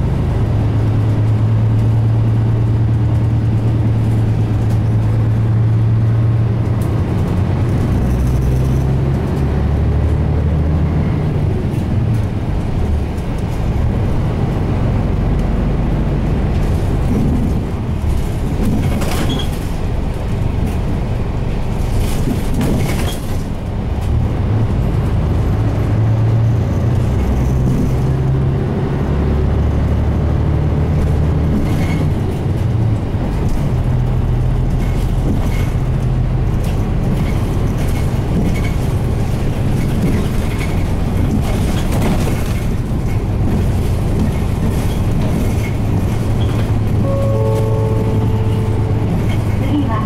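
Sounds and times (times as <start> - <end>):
bus diesel engine droning: 0.0 - 50.0.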